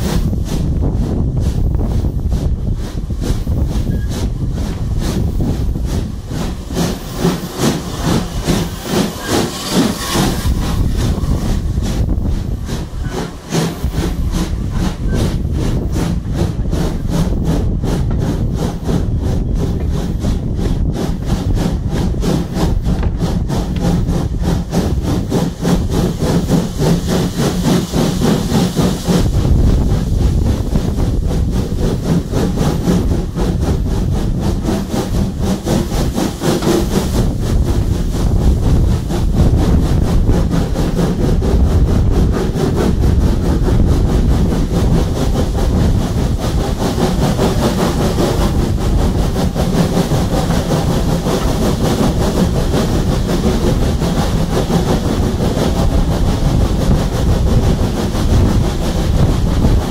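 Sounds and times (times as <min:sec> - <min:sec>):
carriage wheels rumbling on rails: 0:00.0 - 0:59.9
high steam hiss: 0:00.0 - 0:59.9
steam engine exhaust chuffing: 0:00.0 - 0:59.9.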